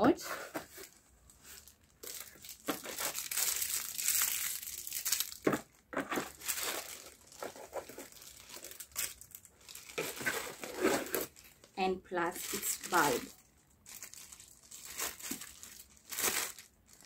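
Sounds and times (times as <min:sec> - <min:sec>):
plastic packaging crinkling: 0:00.6 - 0:17.0.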